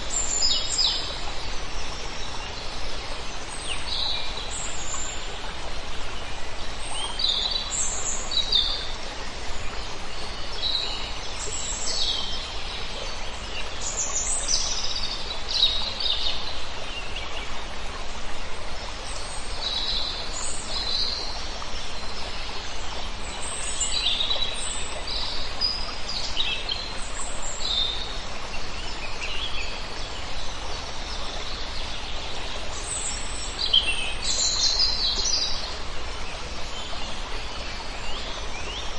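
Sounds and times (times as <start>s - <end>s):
open-air background hiss: 0.0s - 38.9s.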